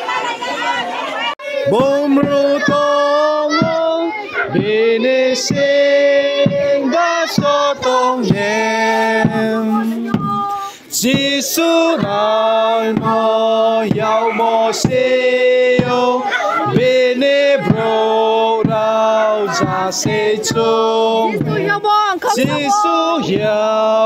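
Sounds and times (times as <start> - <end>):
group singing a hymn: 0.0 - 24.0.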